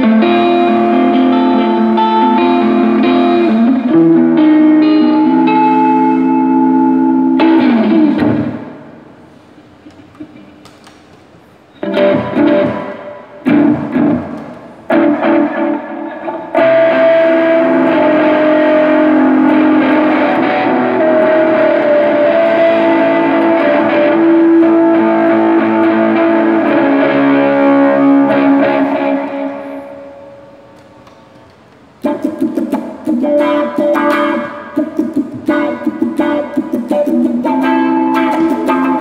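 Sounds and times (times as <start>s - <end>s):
electric guitar playing: 0.0s - 9.4s, 11.7s - 39.0s.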